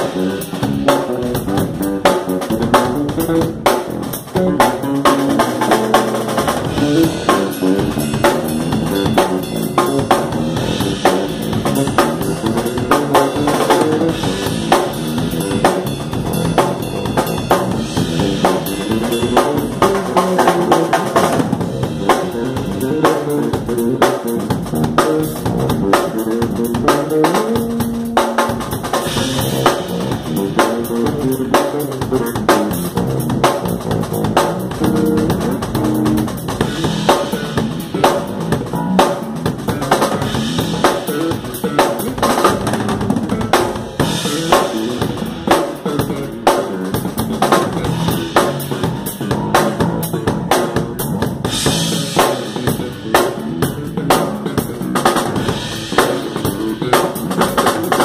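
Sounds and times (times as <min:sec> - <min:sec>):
drum kit rock beat: 0:00.0 - 0:58.0
electric bass line: 0:00.0 - 0:58.0.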